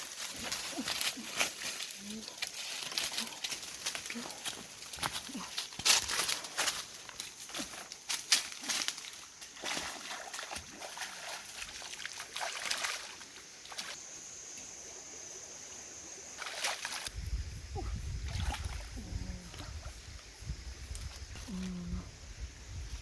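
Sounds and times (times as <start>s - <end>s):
water splashing and sloshing: 0.0s - 21.9s.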